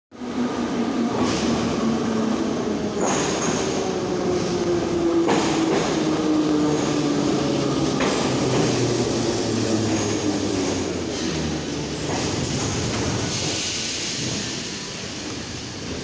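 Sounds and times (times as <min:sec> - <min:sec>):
train wheels rumbling on rails: 0:00.2 - 0:16.0.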